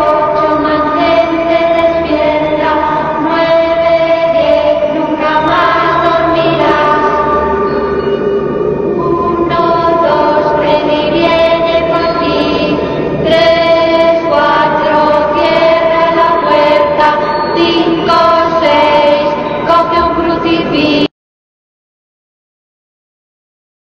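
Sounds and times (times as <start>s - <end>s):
choir singing long notes: 0.0s - 21.1s.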